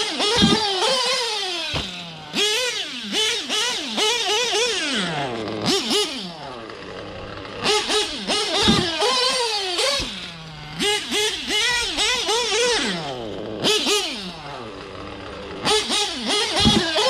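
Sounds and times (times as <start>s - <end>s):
model engine revving: 0.0s - 17.0s.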